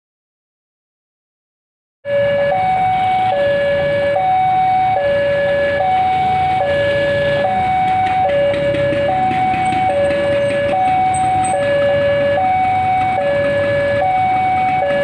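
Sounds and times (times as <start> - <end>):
level crossing two-tone alarm: 2.1 - 15.0
traffic rumble: 2.1 - 15.0.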